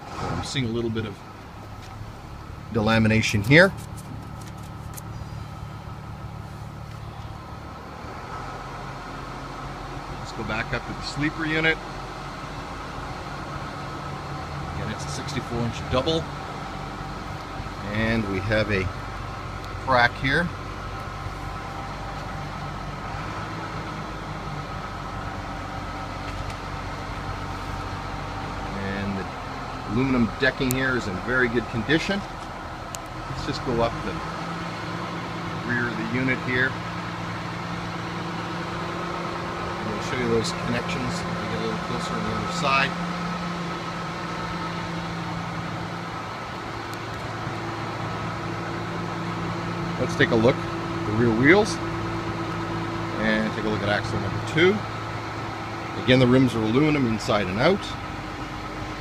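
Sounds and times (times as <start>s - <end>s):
diesel truck engine idling: 0.0s - 59.0s
low mechanical hum: 0.0s - 59.0s.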